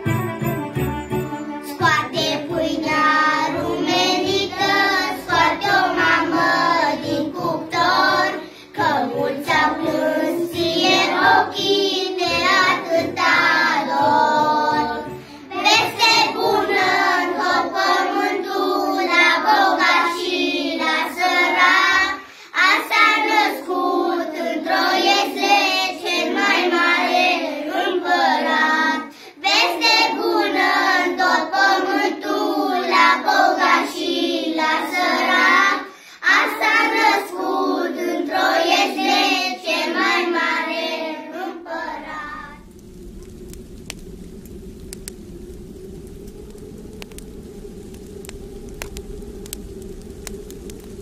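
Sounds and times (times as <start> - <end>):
children singing together: 1.4 - 42.7.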